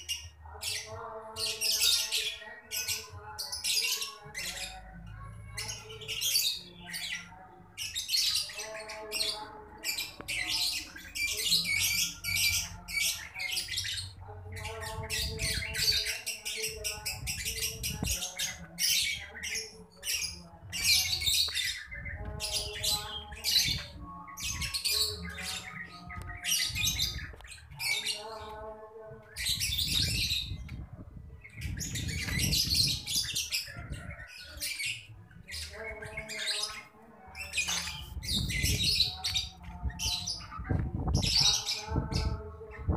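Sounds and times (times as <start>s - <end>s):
birds chirping and squawking: 0.0s - 42.9s.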